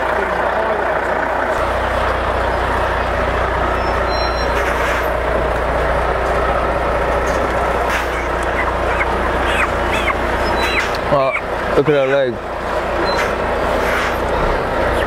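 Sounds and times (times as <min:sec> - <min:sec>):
lorry diesel engine running: 0:00.0 - 0:15.0
road and mechanical noise: 0:00.0 - 0:15.0.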